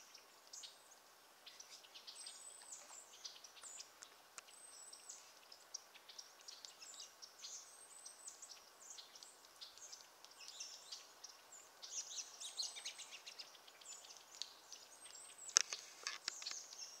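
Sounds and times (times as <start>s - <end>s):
finches chirping and twittering: 0.0s - 17.0s.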